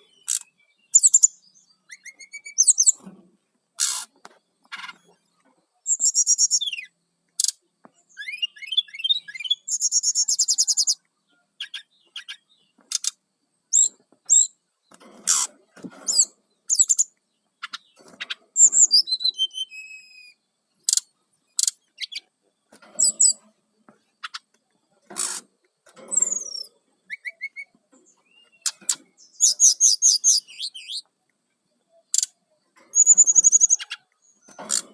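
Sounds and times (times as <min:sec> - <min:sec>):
bird singing high phrases: 0:00.0 - 0:03.0, 0:03.8 - 0:14.6, 0:16.1 - 0:22.4, 0:26.1 - 0:31.1, 0:31.7 - 0:34.8.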